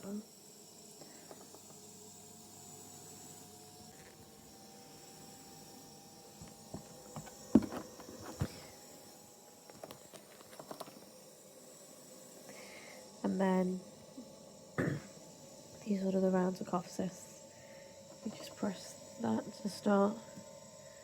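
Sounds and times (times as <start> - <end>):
machine whine: 0.0 - 21.0.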